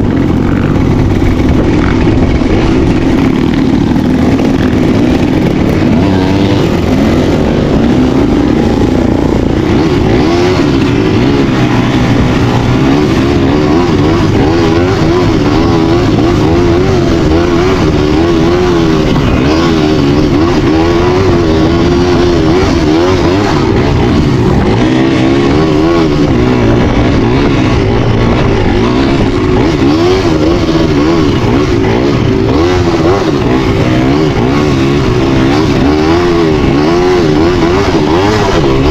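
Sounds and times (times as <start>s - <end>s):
engine running under load: 0.0s - 38.9s.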